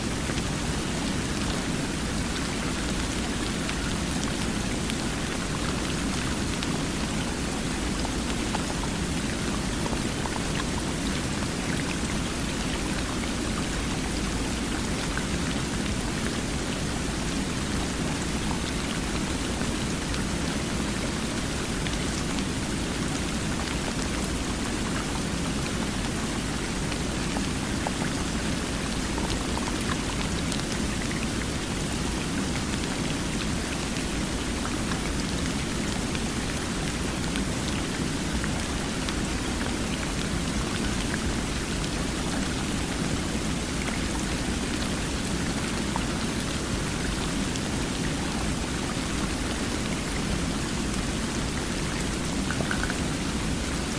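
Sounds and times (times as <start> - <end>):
water rushing and splashing: 0.0 - 53.9.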